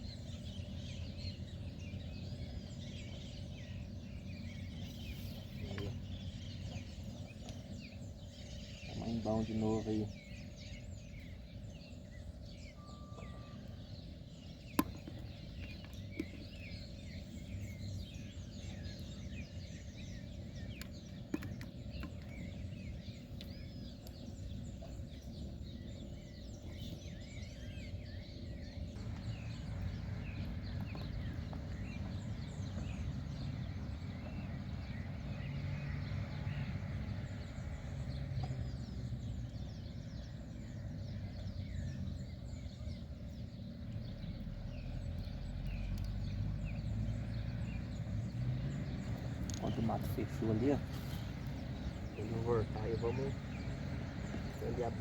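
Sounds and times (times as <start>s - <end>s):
bird chirps: 0.0s - 55.0s.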